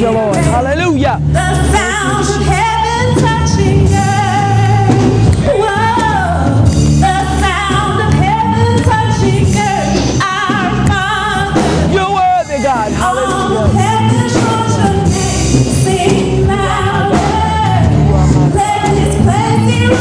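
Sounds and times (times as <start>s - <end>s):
instrumental backing: 0.0s - 20.0s
women singing: 1.3s - 11.9s, 12.9s - 20.0s.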